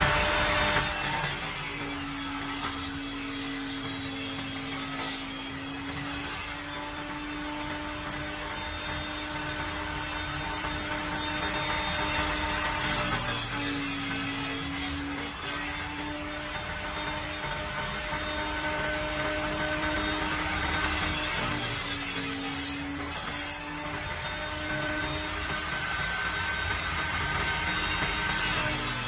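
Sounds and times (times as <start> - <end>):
power saw cutting wood: 0.0 - 29.0.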